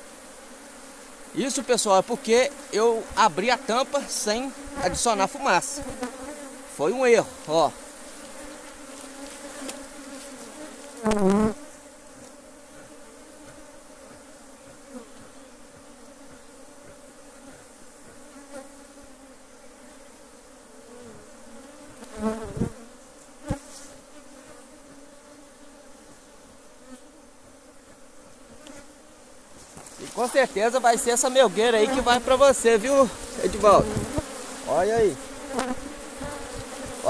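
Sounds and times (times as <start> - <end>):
bees buzzing: 0.0 - 37.0
bee flying past microphone: 2.2 - 37.0.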